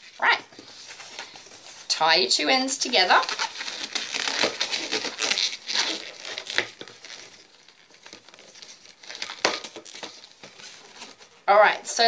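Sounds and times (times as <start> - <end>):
balloon rubbing and stretching: 0.0 - 11.5.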